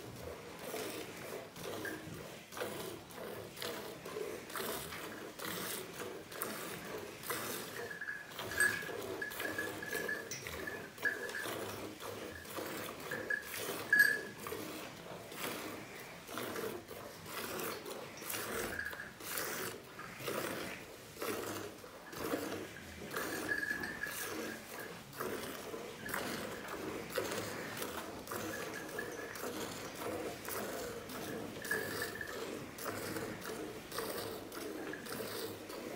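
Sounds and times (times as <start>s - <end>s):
milk squirting into steel pail: 0.6s - 35.9s.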